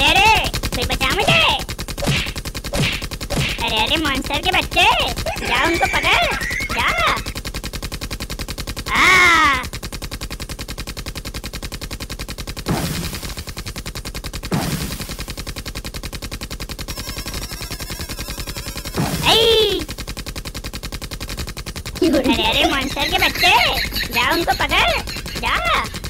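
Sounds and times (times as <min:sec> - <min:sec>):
rapid rattle of sharp clicks: 0:00.0 - 0:26.0.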